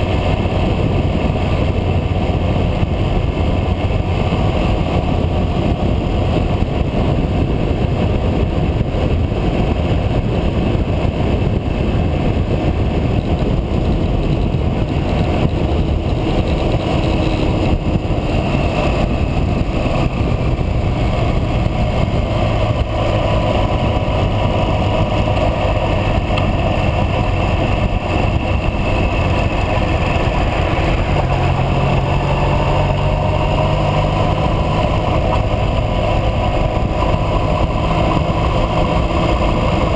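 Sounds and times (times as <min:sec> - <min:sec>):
motorcycle riding: 0:00.0 - 0:39.9.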